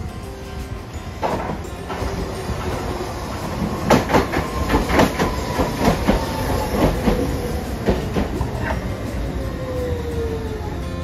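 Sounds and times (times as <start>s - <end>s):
tram wheels clacking over rail joints: 0.0s - 11.0s.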